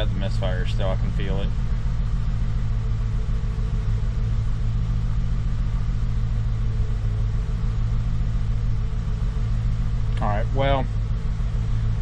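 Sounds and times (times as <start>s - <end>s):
engine idling with misfire: 0.0s - 12.0s.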